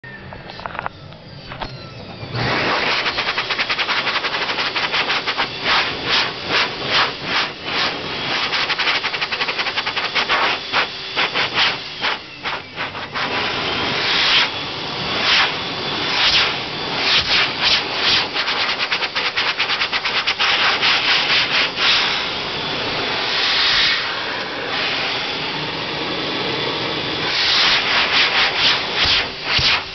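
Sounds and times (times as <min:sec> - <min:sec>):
electric hand dryer blowing: 0:00.3 - 0:29.9.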